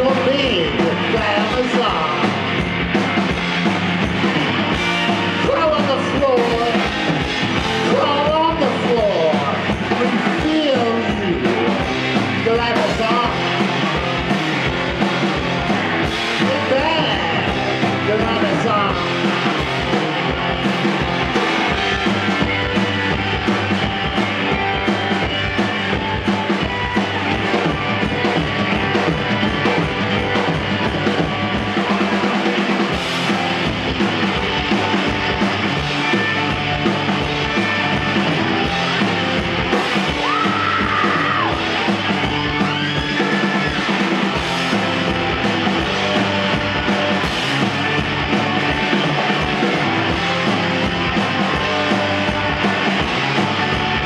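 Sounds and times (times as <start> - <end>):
bass guitar: 0.0 - 54.0
drum kit beat: 0.0 - 54.0
electric guitar: 0.0 - 54.0.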